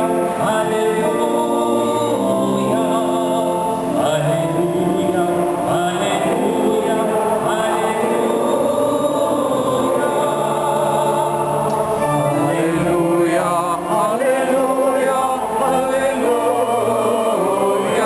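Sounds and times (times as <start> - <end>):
held instrument chords: 0.0 - 18.0
voices singing church music: 0.0 - 18.0.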